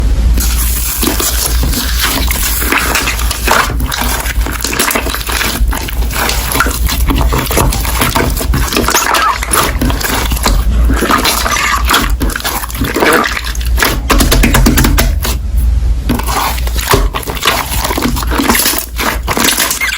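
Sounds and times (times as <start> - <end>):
slime squelching by hand: 0.4 - 19.9.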